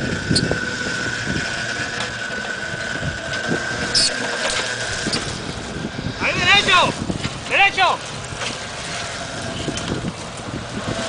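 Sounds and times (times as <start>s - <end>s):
high whine: 0.0s - 10.3s.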